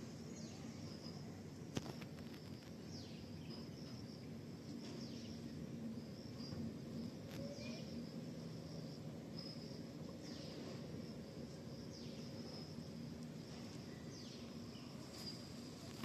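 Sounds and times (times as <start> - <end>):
birds and insects chirping: 0.0 - 16.0.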